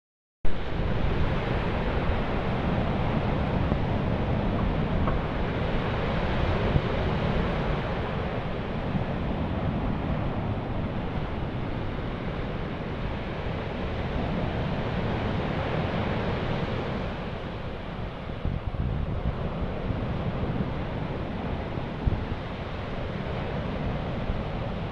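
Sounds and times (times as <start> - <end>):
surf rushing: 0.5 - 24.9
wind buffeting microphone: 0.5 - 24.9.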